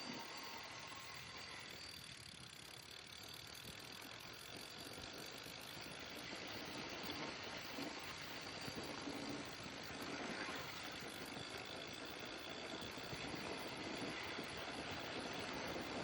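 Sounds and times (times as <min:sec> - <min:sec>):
bicycle tyres rolling on road: 0:00.0 - 0:16.0.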